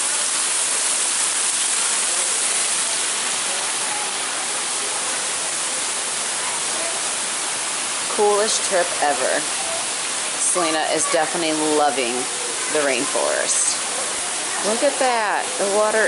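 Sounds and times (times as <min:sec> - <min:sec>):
artificial rain pouring: 0:00.0 - 0:16.0.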